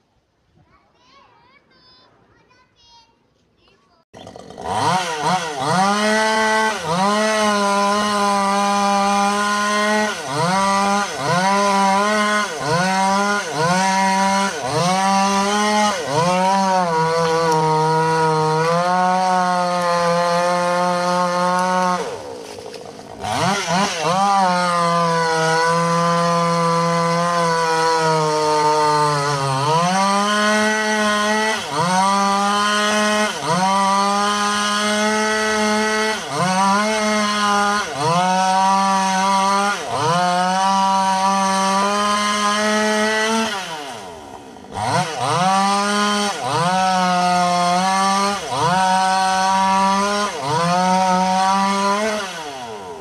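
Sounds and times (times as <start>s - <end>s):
chainsaw cutting wood: 4.2s - 53.0s.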